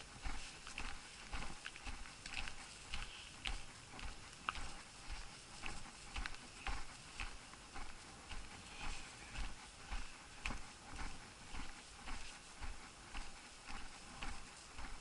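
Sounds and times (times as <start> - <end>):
footsteps walking: 0.0 - 15.0.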